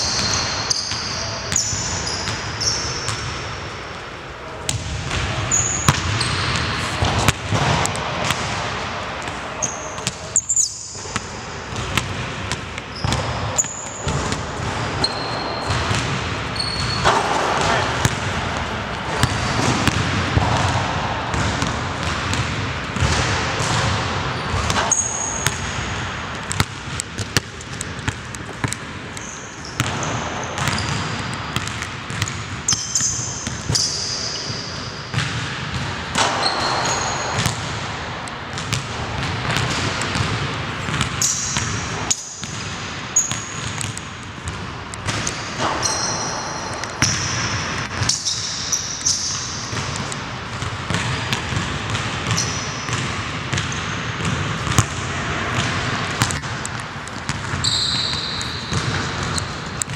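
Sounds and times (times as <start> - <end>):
sneaker squeaks: 0.0 - 8.6, 9.2 - 21.7, 23.0 - 26.6, 28.5 - 37.7, 38.5 - 59.9
basketball bouncing on wooden floor: 4.7 - 8.6, 9.2 - 34.5, 35.1 - 37.8, 38.5 - 59.9.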